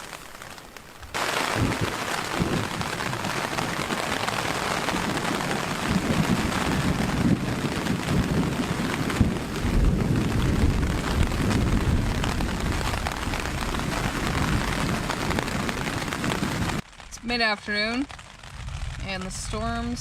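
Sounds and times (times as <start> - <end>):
light rain falling: 0.0 - 20.0
low rolling thunder: 1.2 - 16.8, 18.4 - 20.0.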